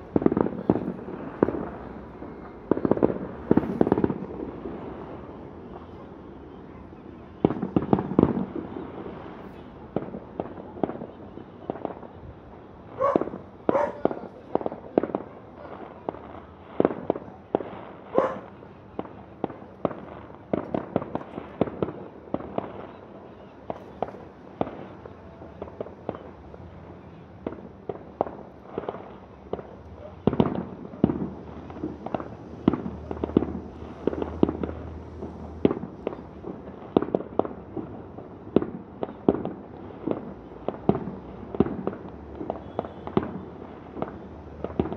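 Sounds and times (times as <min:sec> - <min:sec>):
fireworks bursts and bangs: 0:00.0 - 0:44.9.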